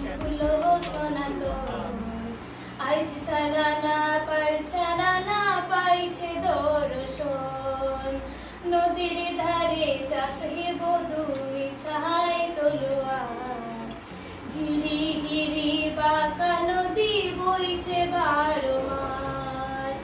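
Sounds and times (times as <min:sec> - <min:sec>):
low musical accompaniment: 0:00.0 - 0:20.0.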